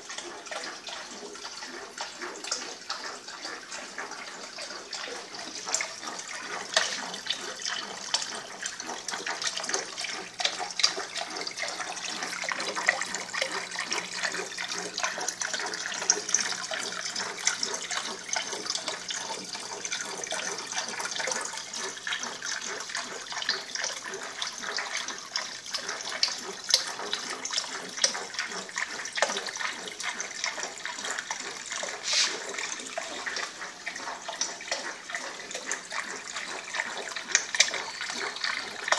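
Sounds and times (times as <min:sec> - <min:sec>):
water splashing and trickling: 0:00.0 - 0:38.9.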